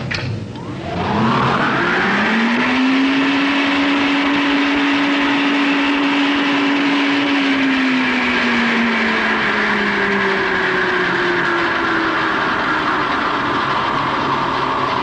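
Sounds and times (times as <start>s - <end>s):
wind tunnel blower hum: 0.0s - 15.0s.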